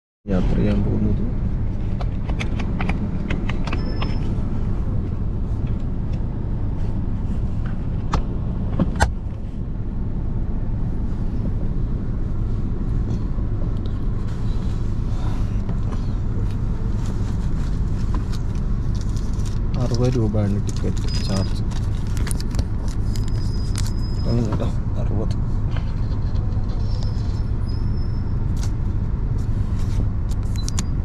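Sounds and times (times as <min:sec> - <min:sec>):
engine and road rumble: 0:00.2 - 0:31.0.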